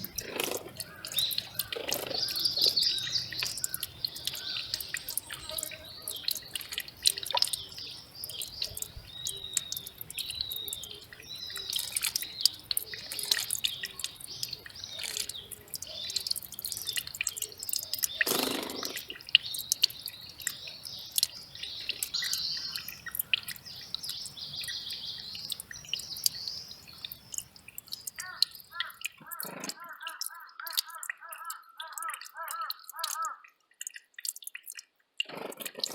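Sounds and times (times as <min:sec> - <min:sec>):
mountain stream trickling: 0:00.0 - 0:35.9
small birds chirping: 0:00.0 - 0:35.9.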